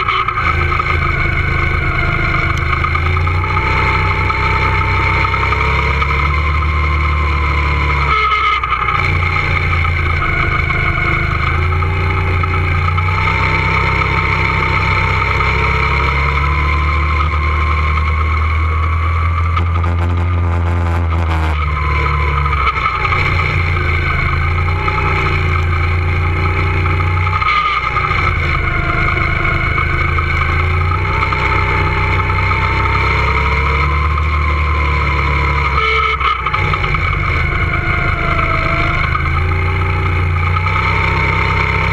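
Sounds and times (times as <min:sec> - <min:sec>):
go-kart motor revving: 0:00.0 - 0:41.9.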